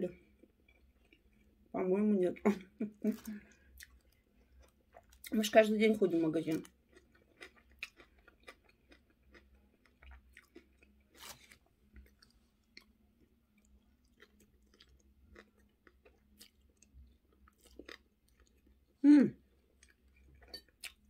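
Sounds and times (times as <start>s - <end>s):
chewing crispy food: 0.1s - 1.7s, 2.5s - 21.0s.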